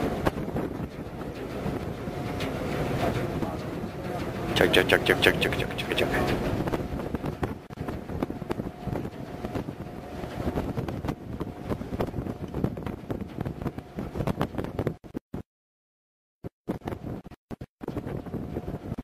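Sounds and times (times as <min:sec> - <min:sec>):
gusty wind on microphone: 0:00.0 - 0:15.2, 0:16.7 - 0:19.0.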